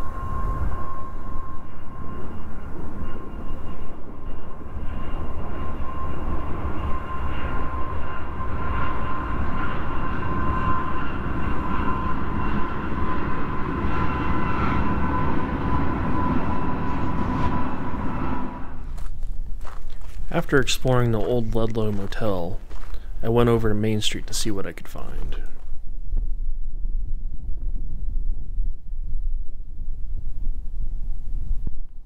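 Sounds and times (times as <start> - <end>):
high ringing tone: 0.0 - 25.7
train rumbling past: 0.0 - 29.0.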